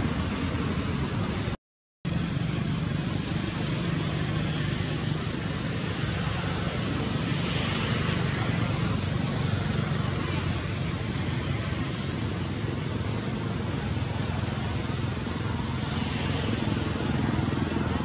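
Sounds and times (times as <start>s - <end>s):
outdoor rumble with hiss: 0.0s - 18.0s.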